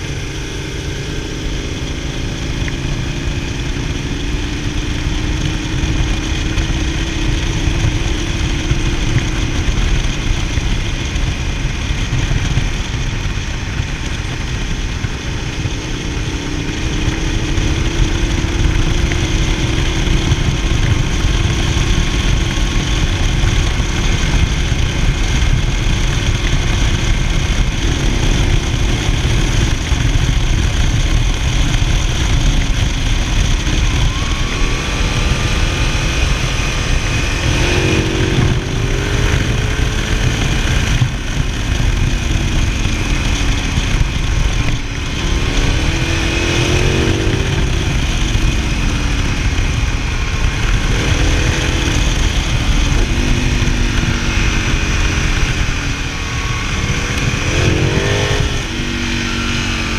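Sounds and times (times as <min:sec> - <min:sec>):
motorcycle engine riding: 0:00.0 - 0:59.9
wind noise on microphone: 0:00.0 - 0:59.9.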